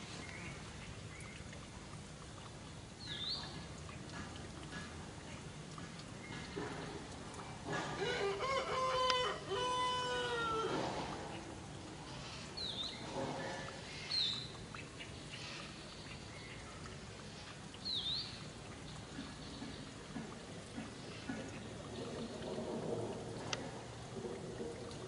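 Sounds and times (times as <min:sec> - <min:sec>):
faint outdoor background: 0:00.0 - 0:25.0.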